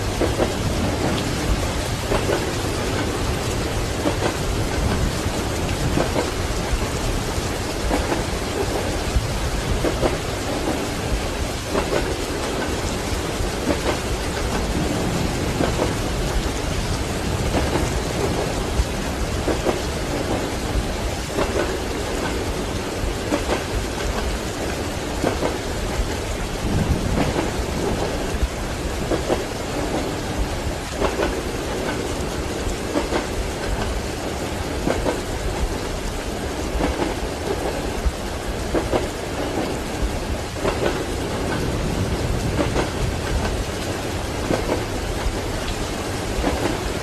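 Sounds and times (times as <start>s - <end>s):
low rolling thunder: 0.0s - 47.0s
steady rain: 0.0s - 47.0s
train wheels clacking on rails: 0.0s - 47.0s.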